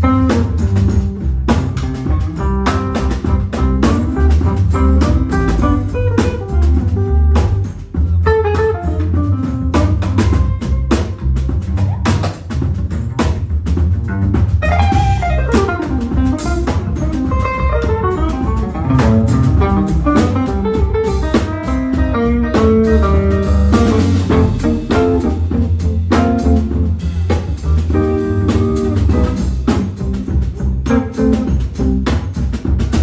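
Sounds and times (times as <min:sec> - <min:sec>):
drum kit: 0:00.0 - 0:33.0
upright bass: 0:00.0 - 0:33.0.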